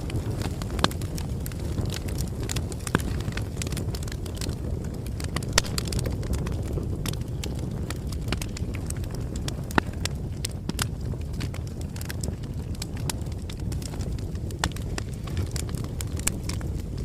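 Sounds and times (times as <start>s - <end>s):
bonfire crackling: 0.0s - 17.0s
loud fire pops: 0.0s - 17.0s.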